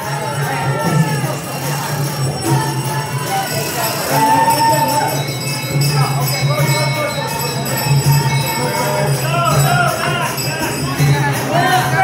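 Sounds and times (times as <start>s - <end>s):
jingling bells: 0.0s - 12.0s
voices: 0.0s - 12.0s.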